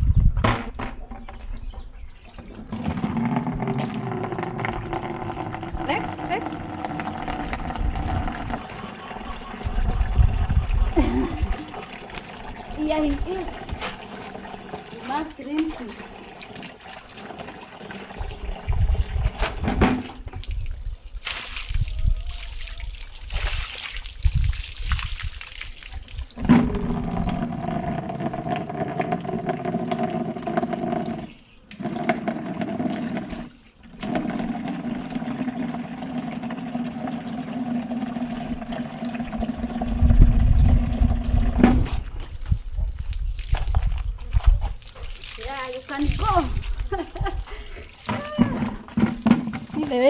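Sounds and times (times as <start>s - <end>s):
steady pouring stream: 2.2s - 50.0s
water splashing on a dog: 2.7s - 38.3s, 39.2s - 50.0s.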